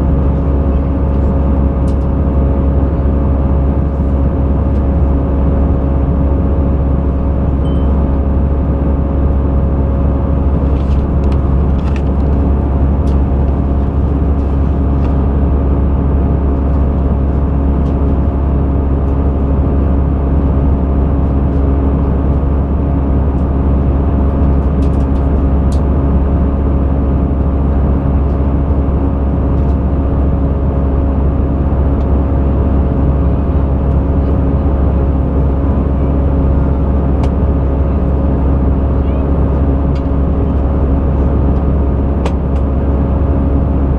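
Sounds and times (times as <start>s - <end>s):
aircraft cabin engine drone: 0.0s - 43.9s.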